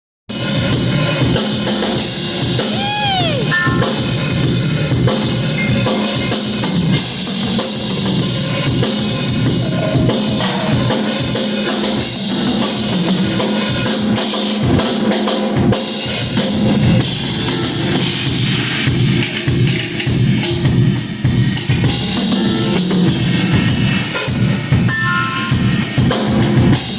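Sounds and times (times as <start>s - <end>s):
live band playing loud: 0.3s - 26.9s.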